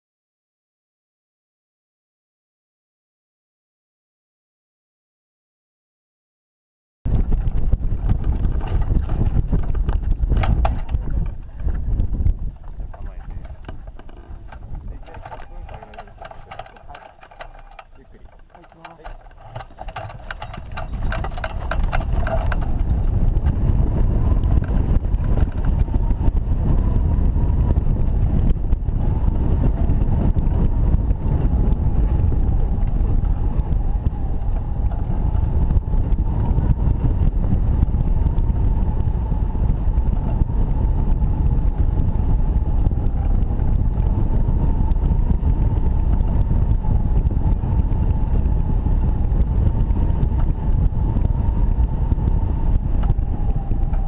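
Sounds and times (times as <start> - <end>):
wind rumble on microphone: 7.1 - 54.0.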